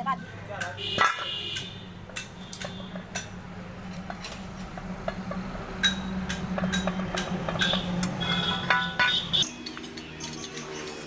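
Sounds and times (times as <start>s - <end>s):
metallic clicks and taps: 0.6s - 3.3s, 4.0s - 10.6s.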